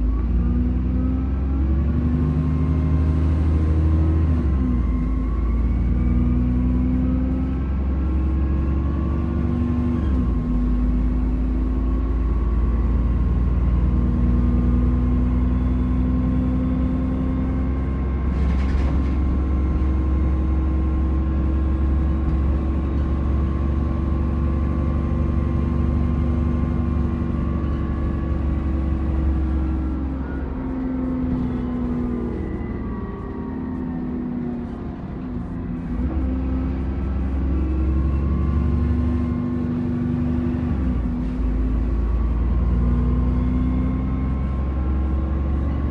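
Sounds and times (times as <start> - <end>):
bus engine drone: 0.0 - 45.9.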